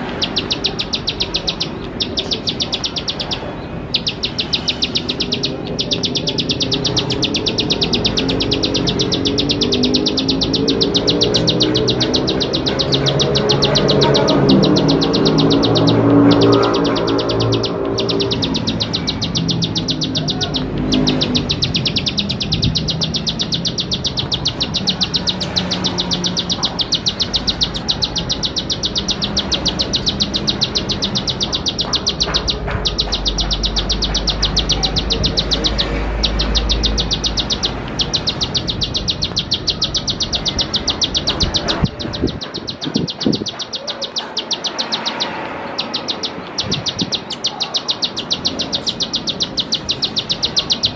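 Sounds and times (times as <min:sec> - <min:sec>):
bird singing high ticking notes: 0:00.0 - 0:50.9.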